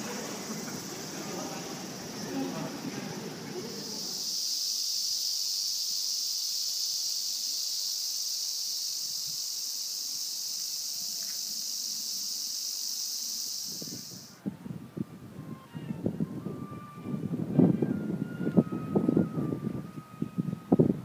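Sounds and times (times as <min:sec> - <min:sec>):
cicadas buzzing: 0:00.0 - 0:14.4, 0:15.5 - 0:20.8.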